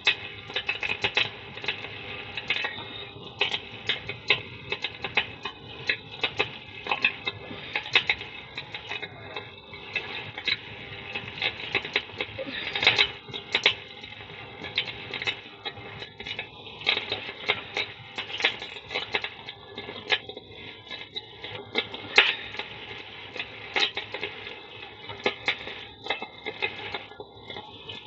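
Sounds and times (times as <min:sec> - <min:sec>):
welding arc crackling: 0:00.0 - 0:28.0.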